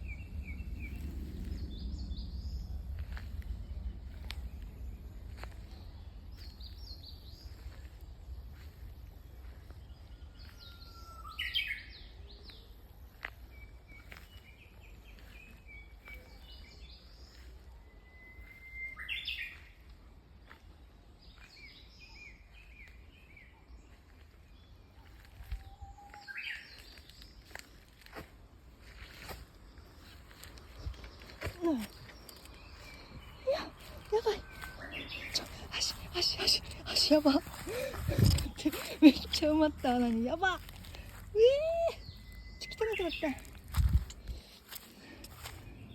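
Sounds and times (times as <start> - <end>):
steady low rumble: 0.0 - 10.7, 19.7 - 45.9
bush warbler singing: 0.0 - 28.2, 28.8 - 45.9
small birds chirping: 0.0 - 45.9.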